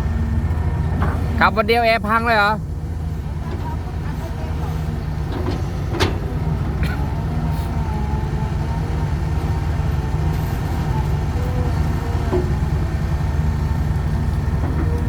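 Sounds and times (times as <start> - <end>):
dump truck diesel engine: 0.0 - 15.0.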